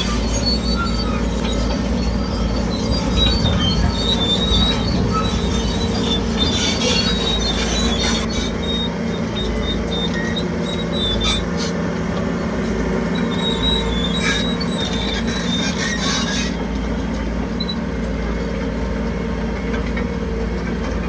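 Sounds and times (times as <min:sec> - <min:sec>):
bulldozer diesel engine: 0:00.0 - 0:21.0
steel tracks squealing and clanking: 0:00.0 - 0:21.0.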